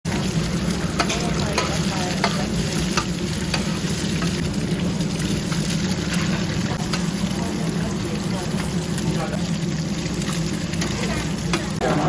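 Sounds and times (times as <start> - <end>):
pancakes sizzling in oil: 0.1 - 12.0.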